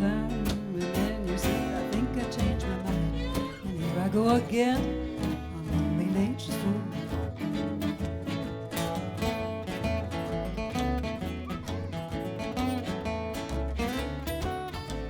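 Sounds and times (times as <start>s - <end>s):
bass line: 0.0s - 15.0s
country band instrumental: 0.0s - 15.0s
strummed acoustic guitar: 0.0s - 15.0s.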